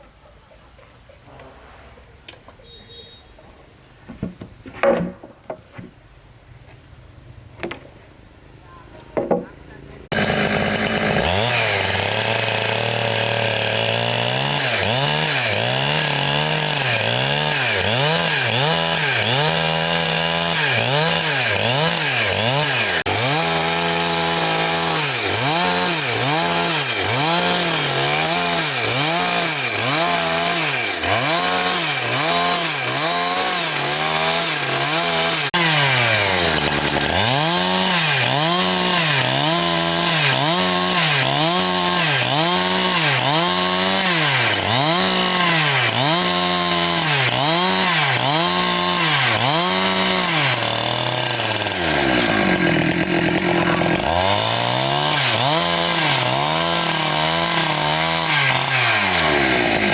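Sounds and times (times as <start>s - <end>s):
chainsaw cutting wood: 9.3s - 59.9s.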